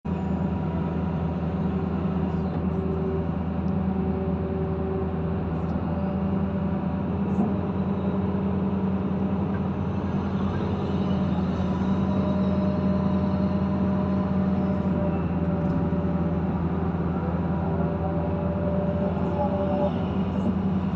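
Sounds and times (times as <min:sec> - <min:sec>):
excavator diesel engine running: 0:00.1 - 0:20.9.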